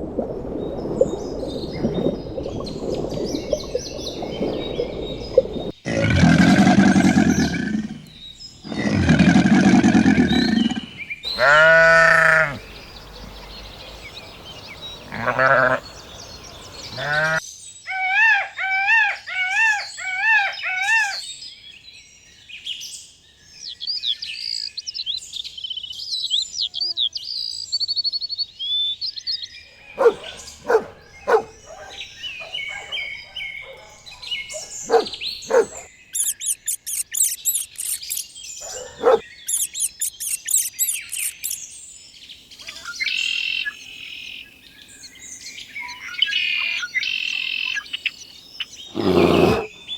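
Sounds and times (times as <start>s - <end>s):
songbirds calling and singing: 0.5s - 49.9s.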